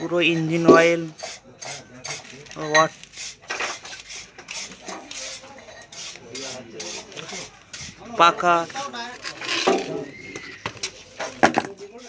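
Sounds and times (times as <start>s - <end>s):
metal tool scraping on engine parts: 0.0s - 12.0s.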